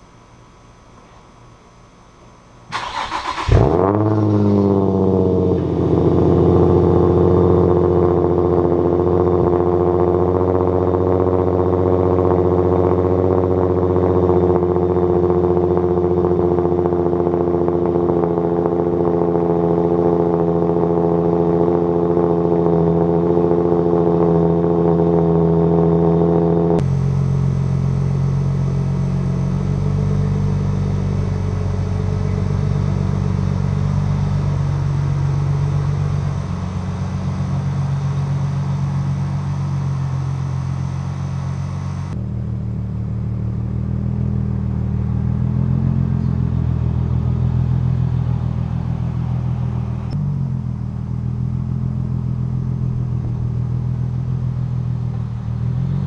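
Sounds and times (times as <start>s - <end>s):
car engine starting and idling: 0.0s - 25.4s, 26.5s - 56.0s.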